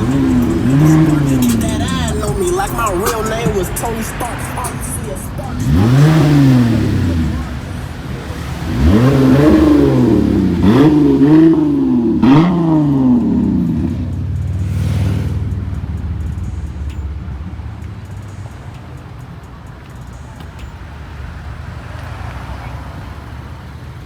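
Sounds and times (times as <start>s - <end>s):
car engine idling: 0.0s - 24.0s
car engine revving: 0.0s - 24.0s.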